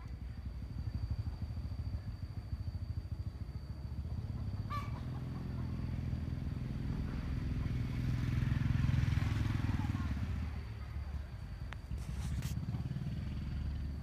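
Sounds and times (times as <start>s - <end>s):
small engine pulsing: 0.0s - 14.0s.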